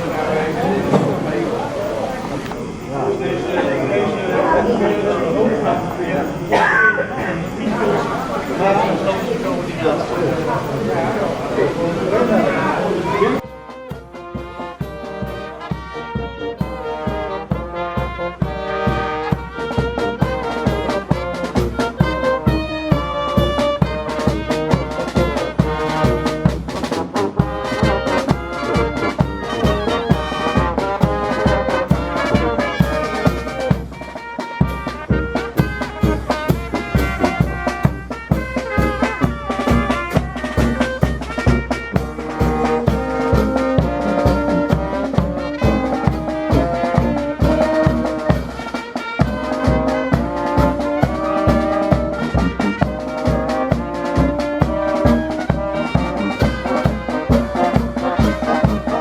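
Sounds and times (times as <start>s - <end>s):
brass band music: 0.0s - 59.0s.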